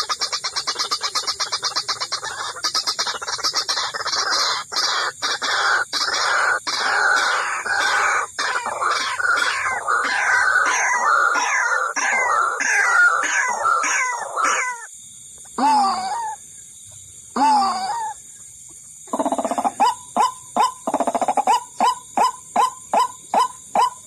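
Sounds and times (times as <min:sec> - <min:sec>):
waterhen calls: 0:00.0 - 0:14.9, 0:19.1 - 0:24.0
recording hiss: 0:00.0 - 0:24.0.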